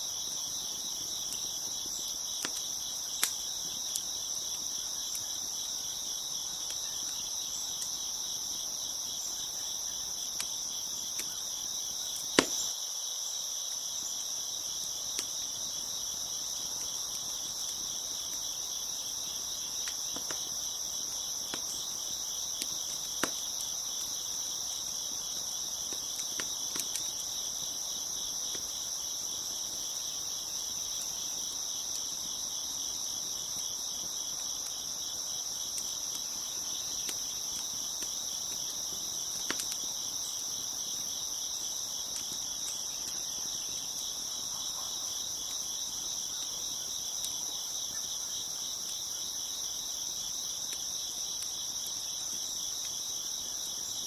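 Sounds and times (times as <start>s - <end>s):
wood fire popping: 0.0s - 12.8s, 14.3s - 44.5s, 45.2s - 54.0s
crickets chirping: 0.0s - 54.0s.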